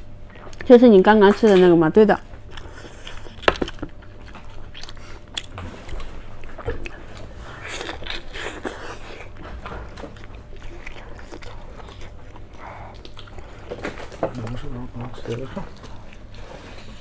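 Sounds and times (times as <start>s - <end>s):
biting and chewing bread: 2.3s - 17.0s.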